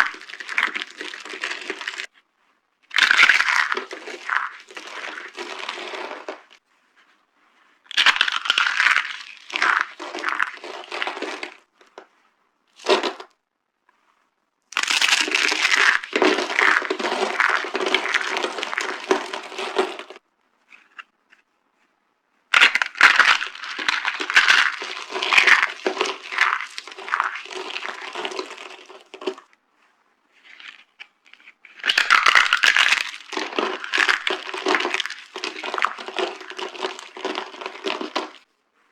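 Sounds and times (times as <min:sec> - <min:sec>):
dry soap crunching: 0:00.0 - 0:02.1, 0:02.9 - 0:06.6, 0:07.8 - 0:12.1, 0:12.8 - 0:13.3, 0:14.7 - 0:21.1, 0:22.5 - 0:29.5, 0:30.4 - 0:38.9.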